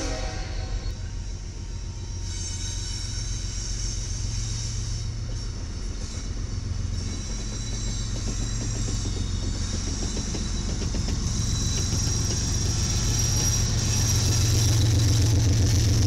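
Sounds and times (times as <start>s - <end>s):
diesel locomotive engine rumble: 0.0s - 16.0s
wheel and rail hiss: 0.0s - 16.0s.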